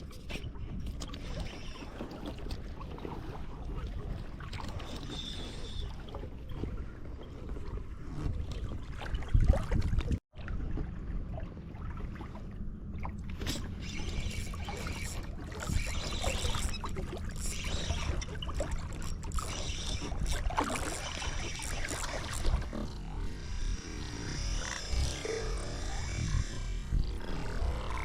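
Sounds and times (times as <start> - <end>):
water trickling around boat: 0.0 - 28.0.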